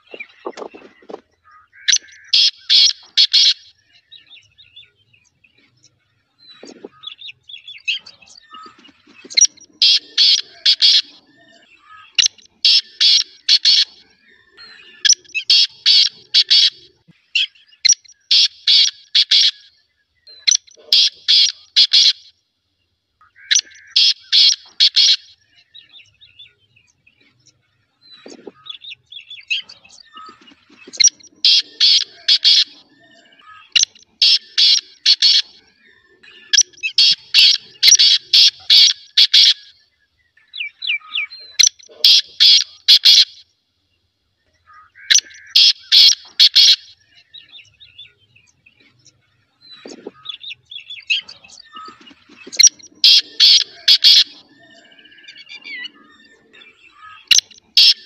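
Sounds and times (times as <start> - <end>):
partridge calling harsh notes: 0.0 - 4.5, 6.4 - 19.7, 20.3 - 22.3, 23.3 - 25.4, 28.1 - 39.8, 40.5 - 43.4, 44.7 - 47.0, 49.6 - 58.0
faint bird chirps: 0.0 - 22.4, 23.2 - 58.0.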